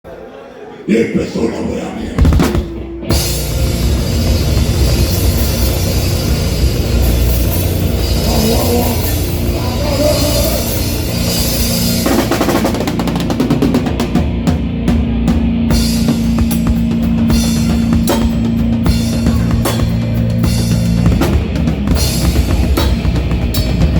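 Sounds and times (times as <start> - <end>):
heavy rock band playing: 2.0 - 23.9
drum kit and cymbals: 2.2 - 23.9.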